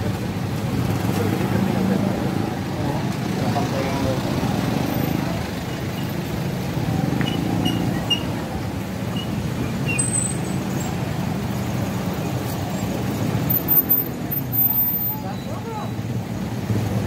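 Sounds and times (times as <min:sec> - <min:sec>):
road vehicles passing: 0:00.0 - 0:17.0.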